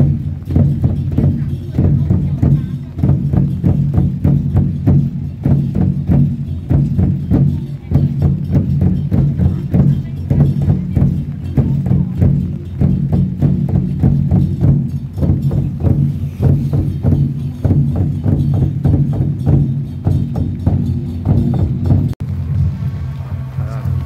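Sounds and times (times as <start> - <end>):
barrel drums beaten with sticks: 0.0 - 22.8.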